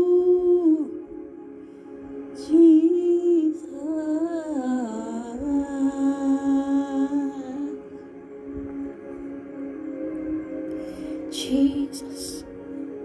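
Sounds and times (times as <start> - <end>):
ambient worship music: 0.0 - 13.0
person humming a slow melody: 0.0 - 13.0.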